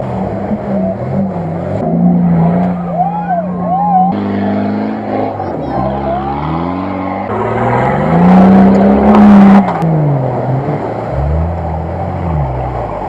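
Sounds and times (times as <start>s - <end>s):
off-road engine revving: 0.0s - 13.0s.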